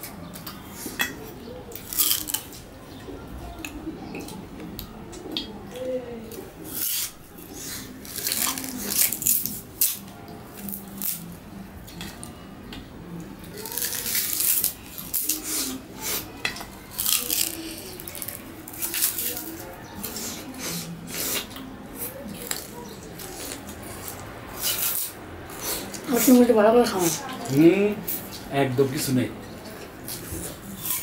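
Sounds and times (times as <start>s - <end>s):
sugarcane being chewed: 0.0s - 12.4s, 13.4s - 26.3s, 29.6s - 31.0s.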